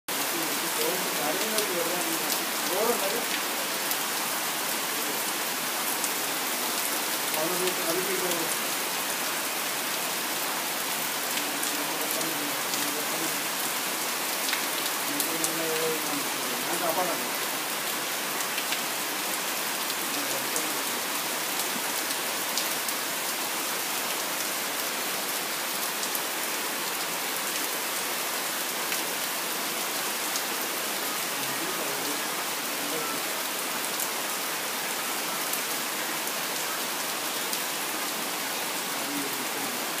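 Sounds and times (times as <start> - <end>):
rain on leaves and paving: 0.1 - 40.0.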